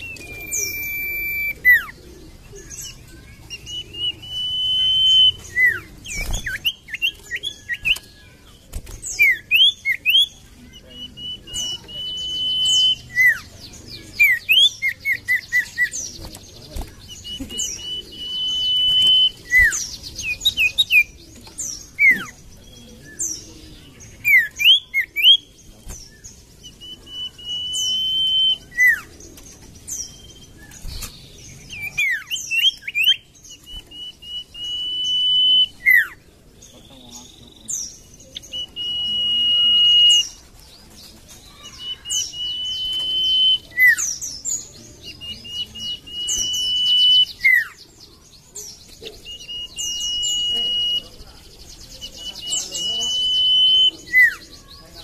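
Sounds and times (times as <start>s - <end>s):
bird singing whistles and chips: 0.0s - 2.0s, 2.6s - 36.2s, 36.9s - 54.8s.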